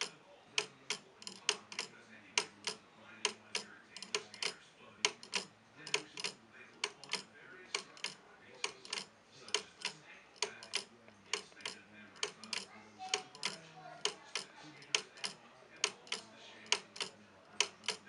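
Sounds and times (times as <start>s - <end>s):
wooden clock ticking: 0.0s - 18.0s.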